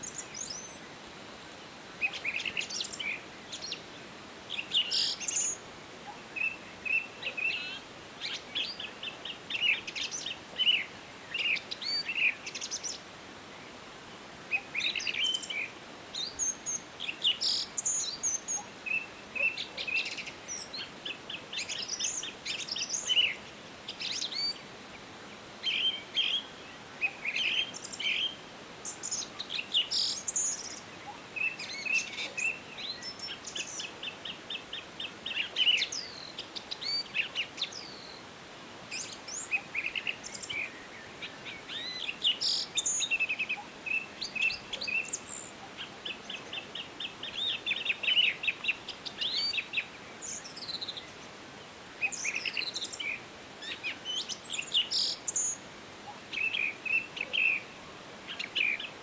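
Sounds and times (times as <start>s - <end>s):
faint forest hiss: 0.0s - 59.0s
songbirds singing: 0.0s - 59.0s.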